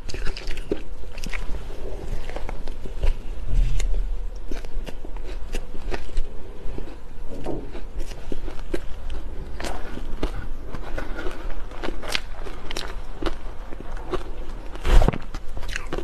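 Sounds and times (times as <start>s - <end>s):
chewing crunchy shaved ice: 0.0s - 16.0s.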